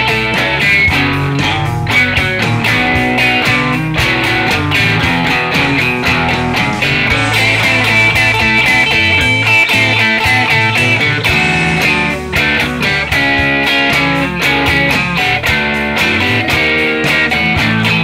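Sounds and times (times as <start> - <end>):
backing track with bass and beat: 0.0 - 18.0
electric guitar: 0.0 - 18.0.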